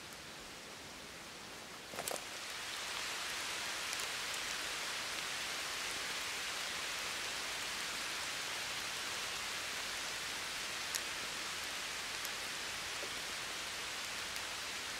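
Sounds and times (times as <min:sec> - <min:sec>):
woodland ambience hiss: 0:00.0 - 0:14.9.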